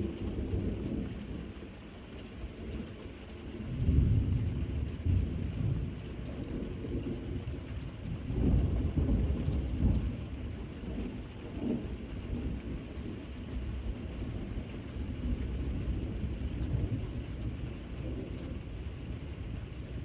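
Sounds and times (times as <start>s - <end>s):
thunder rumbling: 3.7s - 20.0s.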